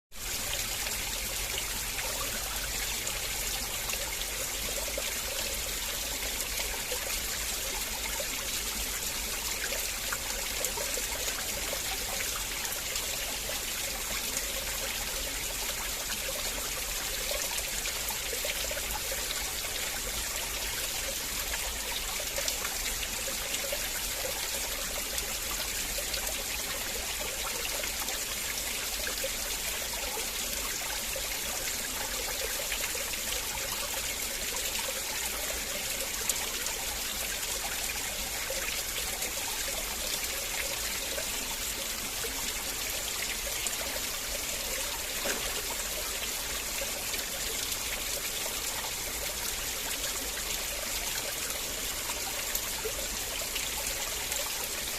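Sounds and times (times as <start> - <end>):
river water flowing over stones: 0.2 - 54.9.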